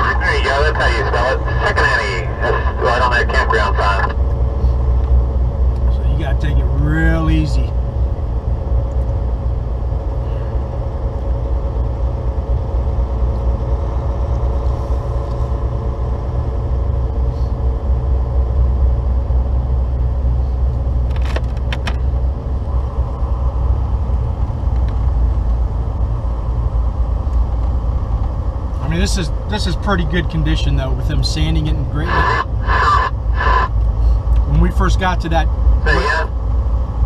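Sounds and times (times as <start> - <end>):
truck engine and tire drone: 0.0 - 37.0.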